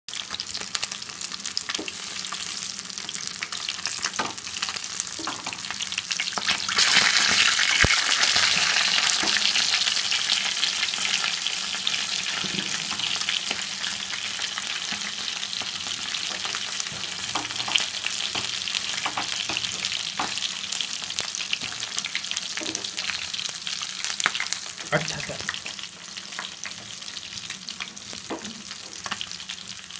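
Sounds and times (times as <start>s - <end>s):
fish deep-frying in oil: 0.1s - 29.9s.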